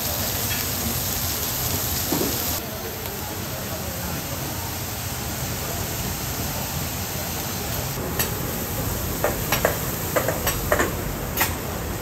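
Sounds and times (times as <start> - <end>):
food sizzling on a griddle: 0.0 - 11.2.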